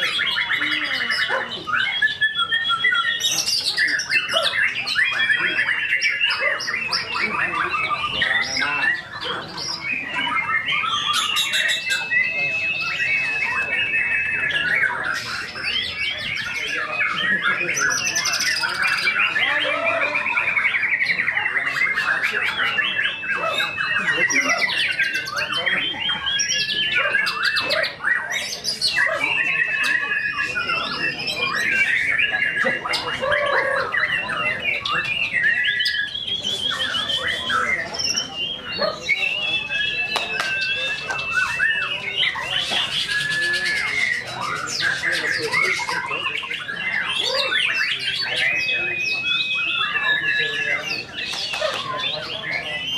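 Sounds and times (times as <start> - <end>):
songbird singing varied phrases: 0.0 - 52.9.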